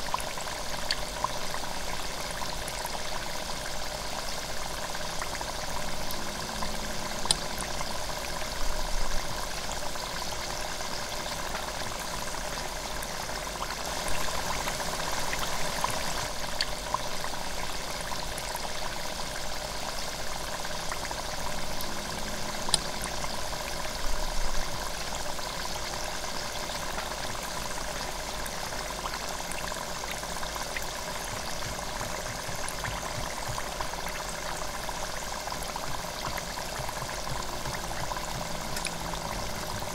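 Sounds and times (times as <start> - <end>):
oil popping and crackling: 0.0 - 39.9
oil sizzling and bubbling: 0.0 - 39.9.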